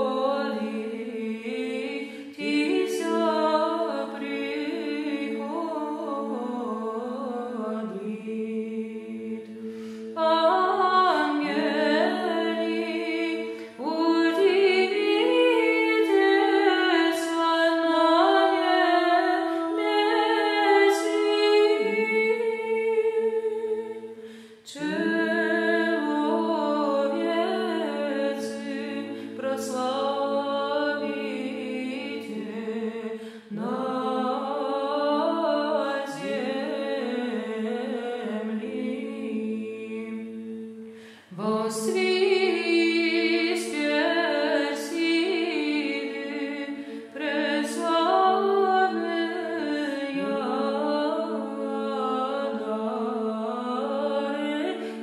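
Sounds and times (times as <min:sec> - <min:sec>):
women's choir chanting a cappella: 0:00.0 - 0:55.0.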